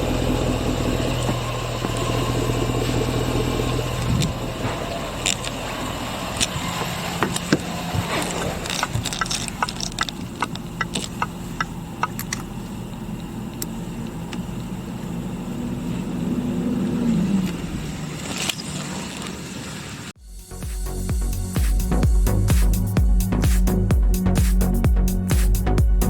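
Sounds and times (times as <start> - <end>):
car engine idling and revving: 0.0 - 18.6, 20.2 - 26.0.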